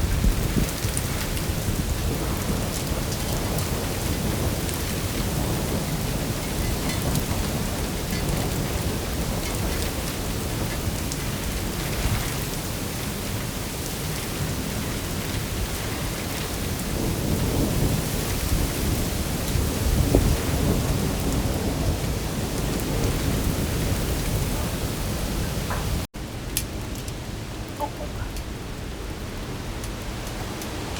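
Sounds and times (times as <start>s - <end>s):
heavy rain in strong wind: 0.0s - 30.9s.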